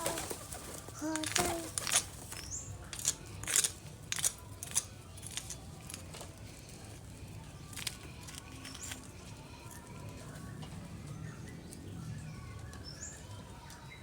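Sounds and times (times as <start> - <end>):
pigeons pecking clicks and rustles: 0.0 - 14.0.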